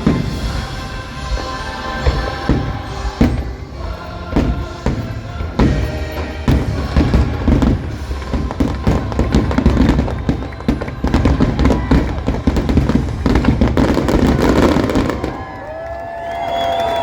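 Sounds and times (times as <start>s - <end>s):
firework bangs and crackles: 0.0s - 17.0s.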